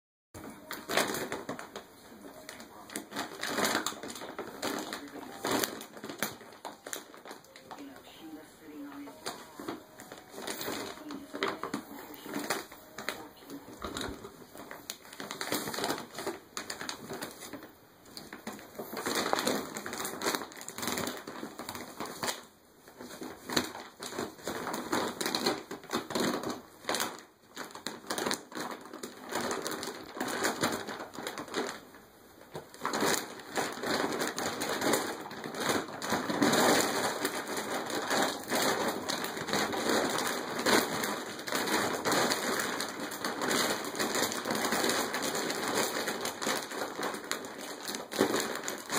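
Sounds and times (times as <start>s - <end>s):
plastic bag crinkling: 0.4s - 48.9s.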